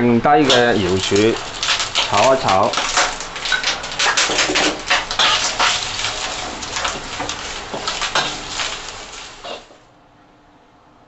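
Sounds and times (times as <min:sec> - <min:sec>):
food sizzling in a wok: 0:00.4 - 0:09.8
metal spatula scraping wok: 0:00.4 - 0:09.8.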